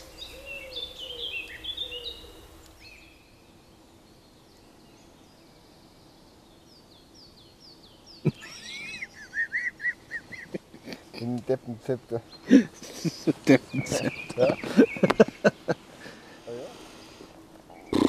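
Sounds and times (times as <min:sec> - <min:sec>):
forest birds singing: 0:00.0 - 0:18.0.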